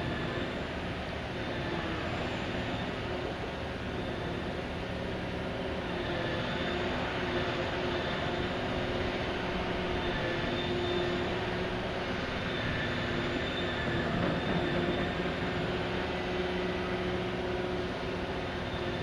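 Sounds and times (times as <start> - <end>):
heavy diesel machinery drone: 0.0 - 19.0.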